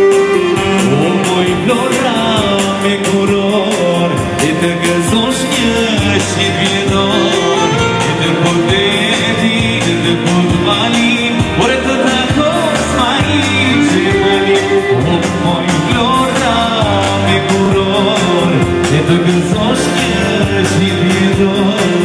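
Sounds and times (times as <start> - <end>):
folk dance music with keyboard: 0.0 - 22.0
person singing: 0.0 - 22.0.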